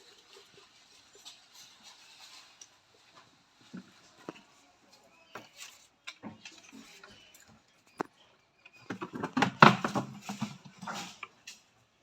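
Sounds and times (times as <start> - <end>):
monkeys knocking and scuffling: 0.0 - 11.8.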